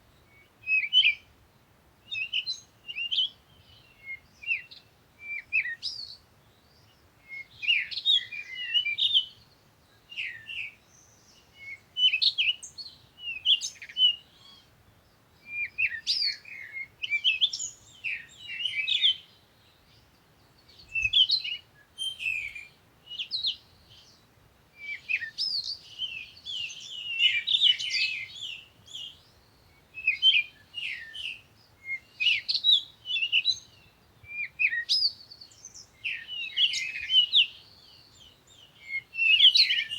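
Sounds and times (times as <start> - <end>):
songbirds chirping and singing: 2.1 - 39.9.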